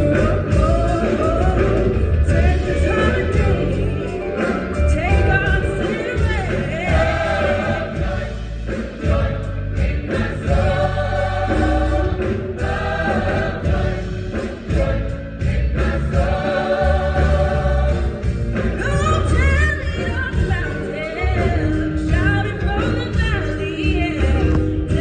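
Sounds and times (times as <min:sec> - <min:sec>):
band with strong bass line: 0:00.0 - 0:25.0
choir singing gospel: 0:00.0 - 0:25.0.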